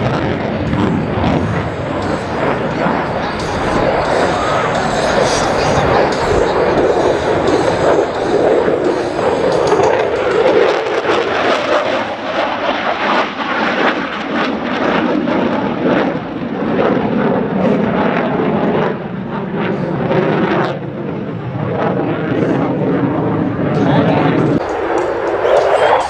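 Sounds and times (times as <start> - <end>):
fighter jet engine crackling: 0.0 - 26.0.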